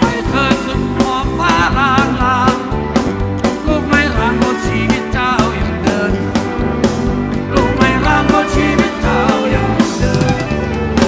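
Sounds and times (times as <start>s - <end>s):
live rock band playing loud: 0.0s - 11.0s.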